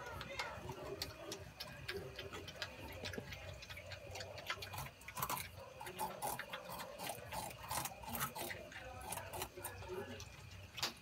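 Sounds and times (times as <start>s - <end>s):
porcupines gnawing and chewing: 0.0s - 11.0s.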